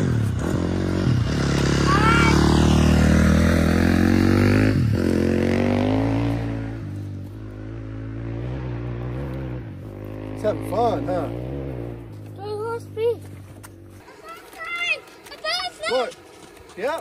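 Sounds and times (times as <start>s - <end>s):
vehicle engine running: 0.0s - 16.9s.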